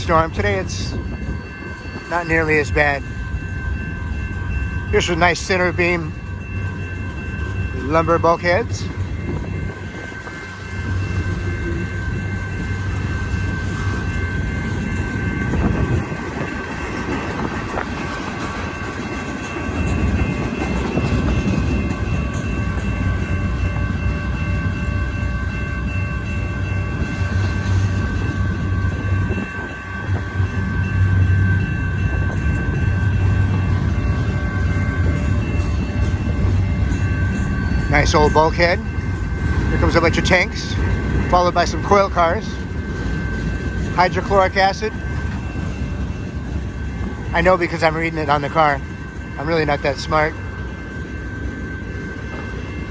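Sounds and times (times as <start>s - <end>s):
freight train cars rumbling: 0.0s - 52.9s
high-pitched ringing tones: 0.0s - 52.9s.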